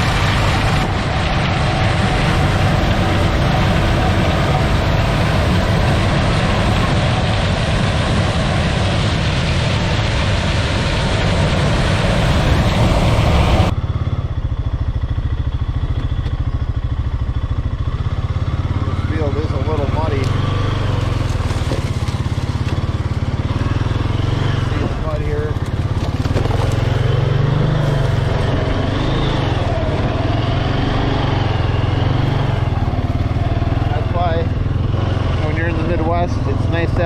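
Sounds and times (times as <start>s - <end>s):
heavy farm machinery running: 0.0s - 37.0s
low engine drone: 0.0s - 37.0s.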